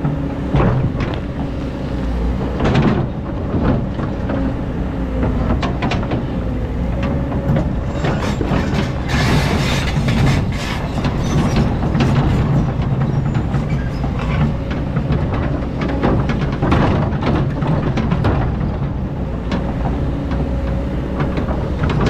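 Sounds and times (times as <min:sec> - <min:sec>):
diesel engine rumbling under load: 0:00.0 - 0:22.0
excavator bucket clanking: 0:00.0 - 0:22.0.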